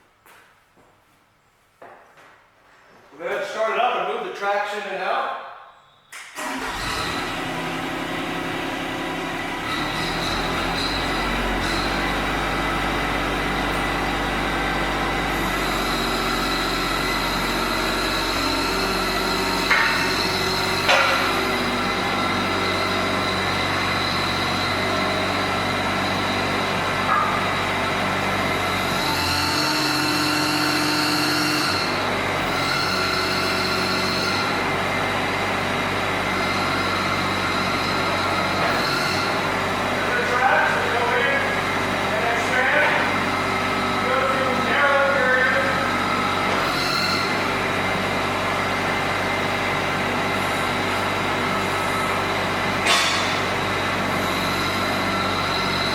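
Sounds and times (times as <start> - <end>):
hydraulics whining: 5.5 - 55.9
excavator diesel engine running: 6.4 - 55.9.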